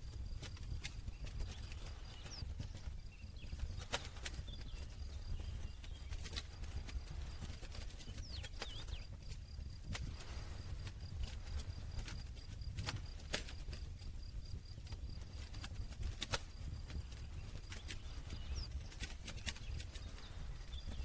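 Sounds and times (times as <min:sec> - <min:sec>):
campfire crackling: 0:00.0 - 0:21.0
low rumble of flames: 0:00.0 - 0:21.0.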